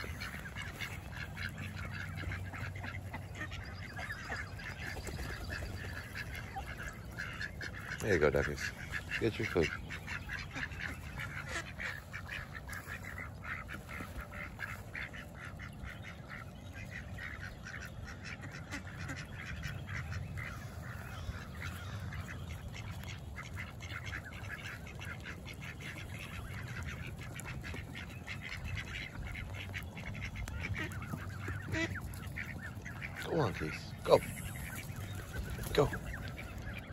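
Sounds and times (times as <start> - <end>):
ducks quacking: 0.0 - 36.9.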